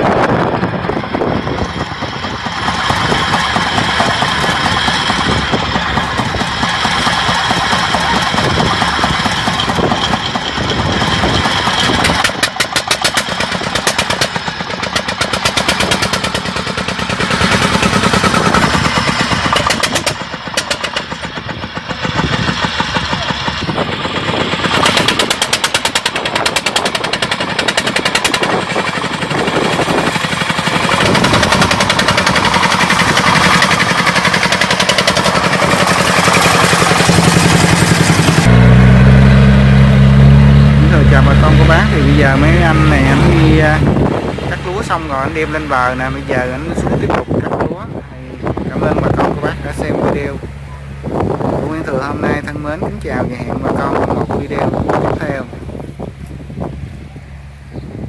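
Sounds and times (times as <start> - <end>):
combine harvester knocking clatter: 0.0 - 56.8.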